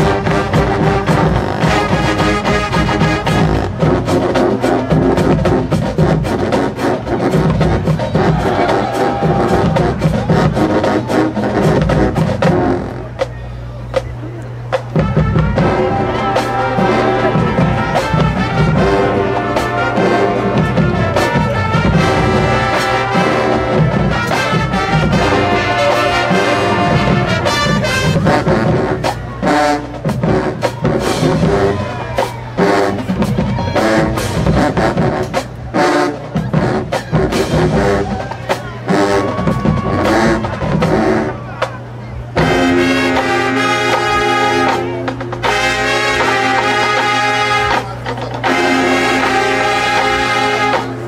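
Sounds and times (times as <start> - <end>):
marching band playing: 0.0 - 51.0.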